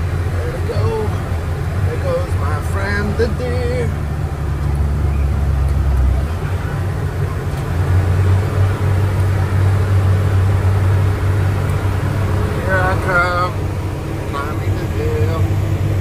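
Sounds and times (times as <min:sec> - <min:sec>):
engine deep drone: 0:00.0 - 0:16.0.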